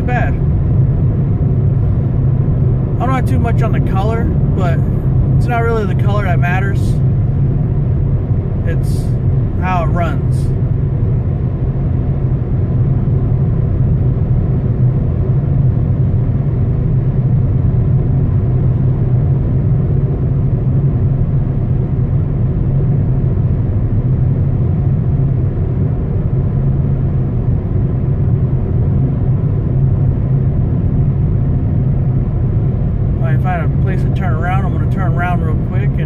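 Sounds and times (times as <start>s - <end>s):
car cabin road and engine drone: 0.0s - 36.0s.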